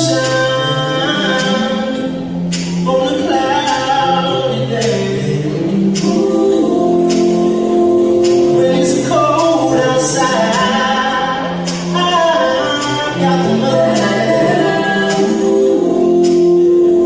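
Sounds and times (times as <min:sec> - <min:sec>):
men singing a cappella harmony: 0:00.0 - 0:17.0.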